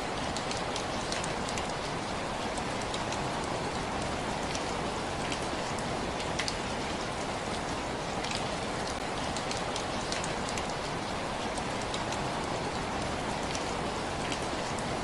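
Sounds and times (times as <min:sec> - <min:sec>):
raindrops ticking on a surface: 0:00.0 - 0:15.0
steady rainfall: 0:00.0 - 0:15.0.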